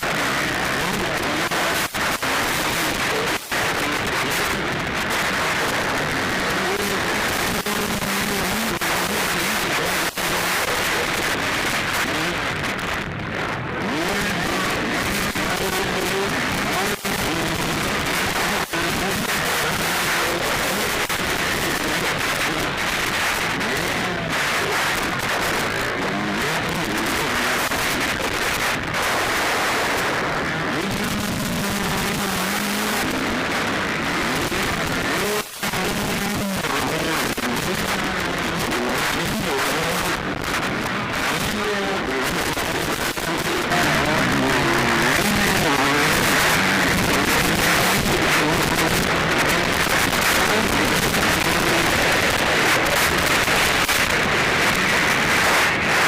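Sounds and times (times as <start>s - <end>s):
heavy recording noise: 0.0s - 56.0s
loud rough microphone noise: 0.0s - 56.0s
motocross bike engines revving: 0.0s - 56.0s.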